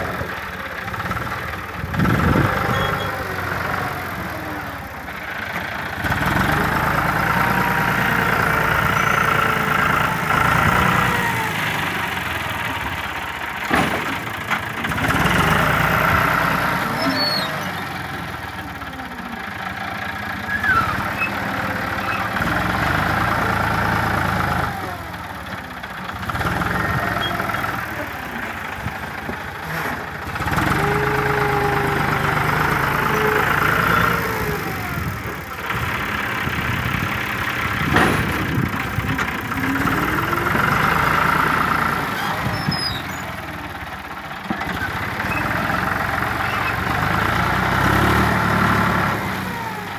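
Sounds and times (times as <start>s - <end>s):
tractor engine revving: 0.0s - 49.9s.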